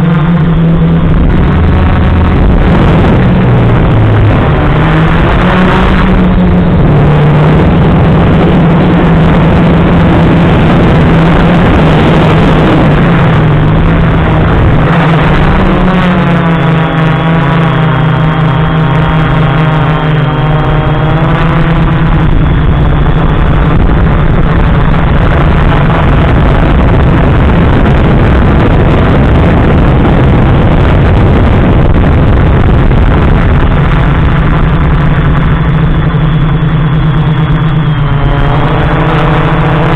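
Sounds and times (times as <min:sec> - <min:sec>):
drone motors and propellers: 0:00.0 - 0:39.9
motor whine shifting in pitch: 0:00.0 - 0:39.9
wind noise: 0:00.0 - 0:39.9.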